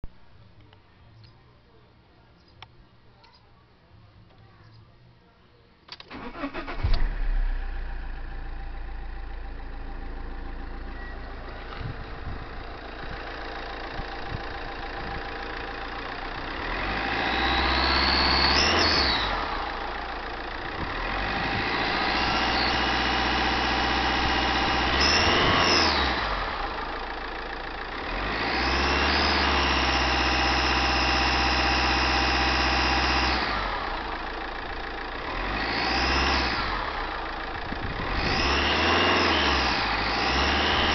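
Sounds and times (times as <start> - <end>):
car engine idling and revving: 6.0 - 40.9.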